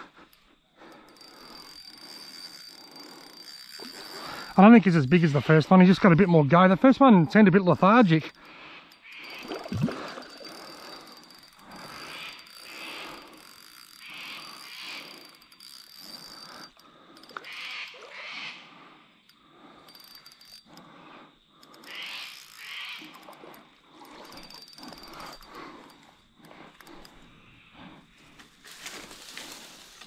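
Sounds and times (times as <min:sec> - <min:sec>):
fishing reel ratcheting: 0:00.3 - 0:27.5.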